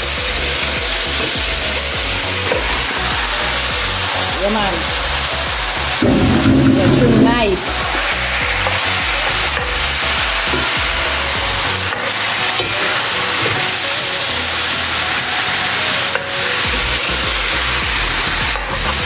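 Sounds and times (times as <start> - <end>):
chicken sizzling in hot oil: 0.0 - 6.0, 7.5 - 19.0.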